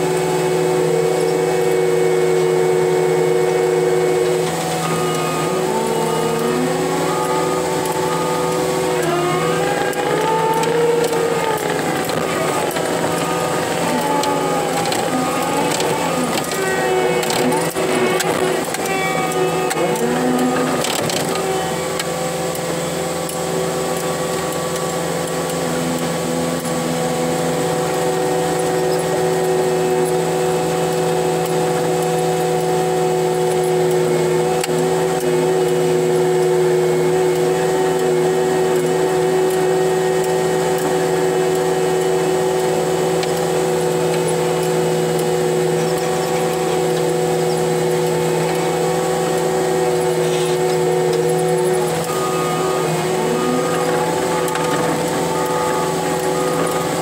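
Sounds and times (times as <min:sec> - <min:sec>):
diesel engine drone: 0:00.0 - 0:57.0
steady machine whine: 0:00.0 - 0:57.0.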